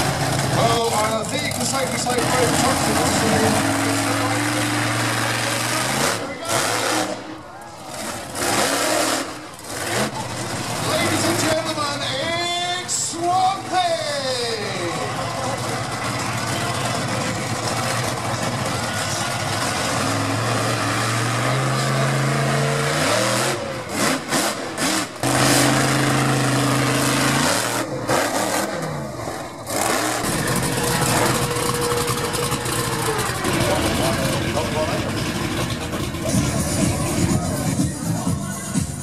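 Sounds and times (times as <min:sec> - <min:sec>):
monster truck engine revving: 0:00.0 - 0:39.0.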